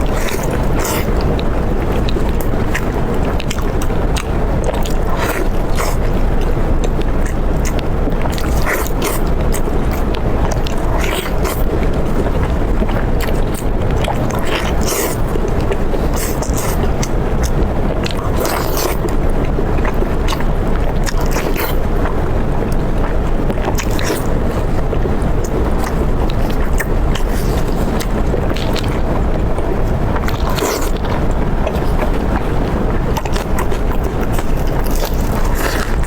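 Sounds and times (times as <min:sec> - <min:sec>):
chewing and crunching: 0:00.0 - 0:36.0
low background rumble: 0:00.0 - 0:36.0.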